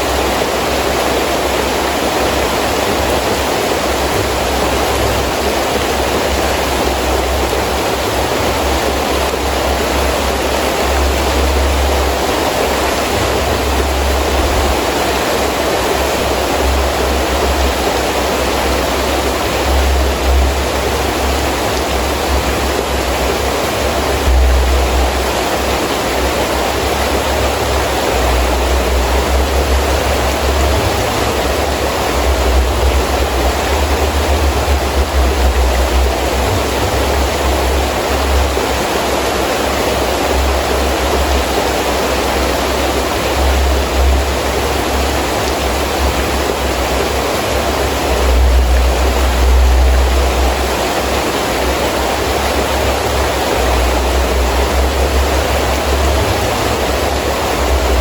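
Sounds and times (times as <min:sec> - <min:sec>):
heavy rain falling: 0:00.0 - 0:58.0
wind gusting: 0:03.0 - 0:58.0.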